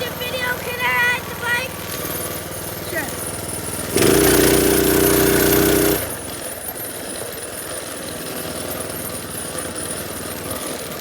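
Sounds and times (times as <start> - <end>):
minibike engine running: 0.0 - 11.0.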